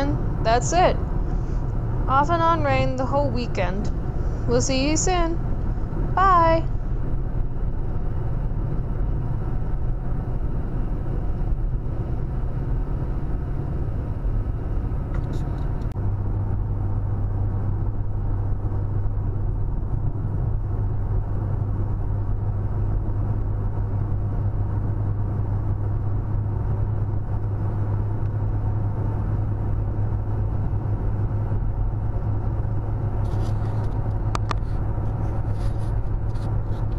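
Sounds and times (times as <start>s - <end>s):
car engine and road noise rumble: 0.0s - 36.9s.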